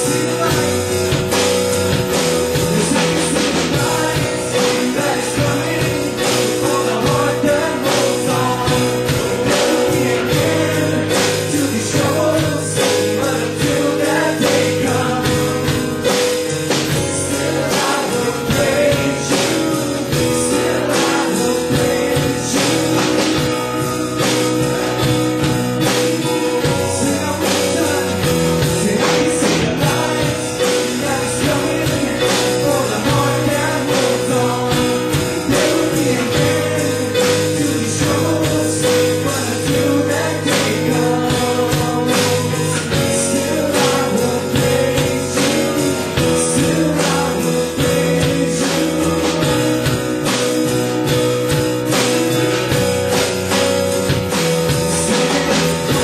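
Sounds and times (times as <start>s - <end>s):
drum kit beat: 0.0s - 56.0s
electric guitar: 0.0s - 56.0s
keyboard: 0.0s - 56.0s
man singing: 0.0s - 56.0s.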